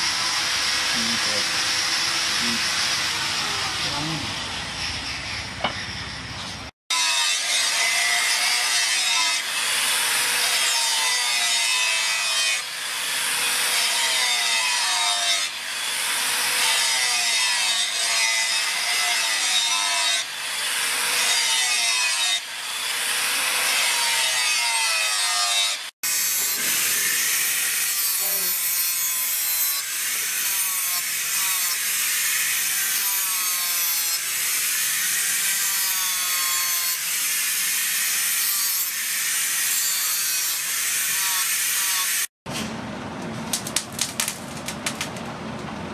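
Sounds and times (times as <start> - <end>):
angle grinder grinding steel: 0.0 - 42.3.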